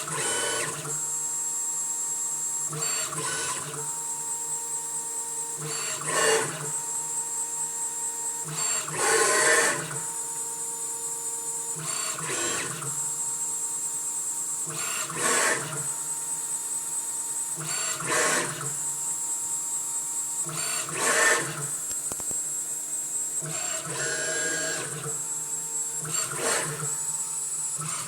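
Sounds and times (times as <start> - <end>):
machine motors whining: 0.0 - 16.2, 17.5 - 19.0, 20.4 - 22.4, 23.1 - 28.0.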